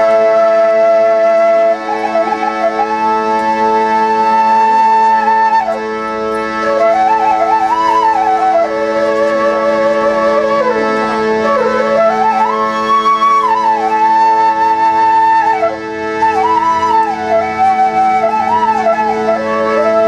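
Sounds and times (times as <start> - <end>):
bamboo flute melody: 0.0 - 20.0
steady drone: 0.1 - 20.0.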